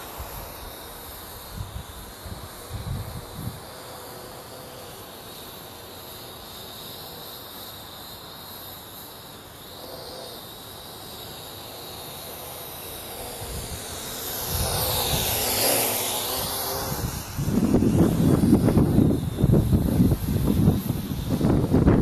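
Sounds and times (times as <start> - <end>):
quadcopter rotors buzzing: 0.0 - 22.0.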